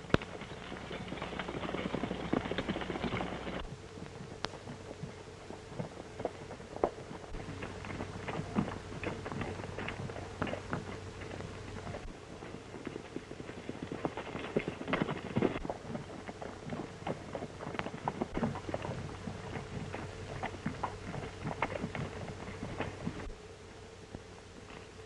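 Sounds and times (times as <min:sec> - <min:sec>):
horse hooves clip-clopping: 0:00.0 - 0:25.0
steady low hum: 0:00.0 - 0:25.0.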